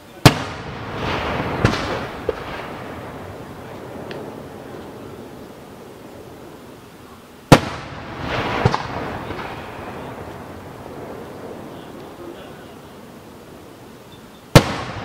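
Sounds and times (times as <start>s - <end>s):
firework crack: 0.0s - 15.0s
firework hissing crackle: 0.0s - 15.0s
firework rumble: 0.0s - 15.0s
firework bang: 0.2s - 6.8s, 7.5s - 13.7s, 14.5s - 15.0s.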